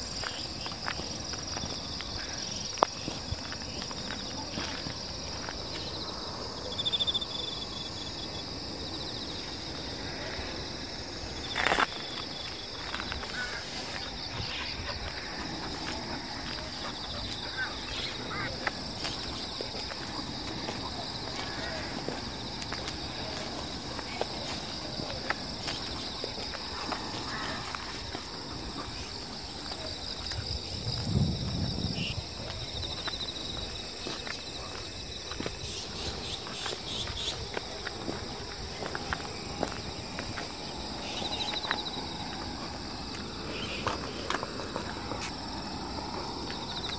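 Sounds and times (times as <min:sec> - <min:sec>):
footsteps on paved road: 0:00.0 - 0:46.9
insect chorus: 0:00.0 - 0:46.9
rapid pulsed insect trills: 0:00.0 - 0:46.9.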